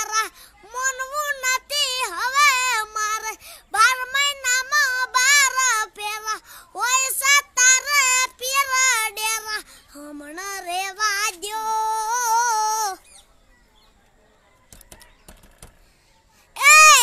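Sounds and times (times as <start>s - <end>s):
boy singing unaccompanied: 0.0s - 13.2s, 16.5s - 17.0s.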